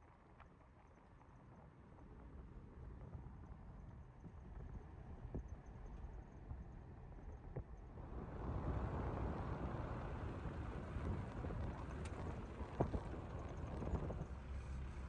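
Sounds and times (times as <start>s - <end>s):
road and wind rumble: 0.1s - 15.0s.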